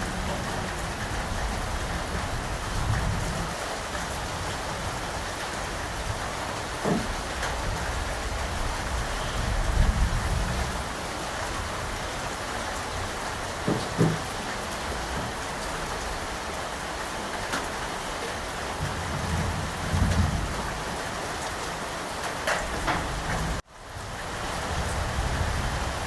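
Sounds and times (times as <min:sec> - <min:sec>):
low thunder rumbles: 0:00.0 - 0:16.4, 0:18.7 - 0:21.5, 0:22.6 - 0:26.0
heavy rain falling: 0:00.0 - 0:26.0.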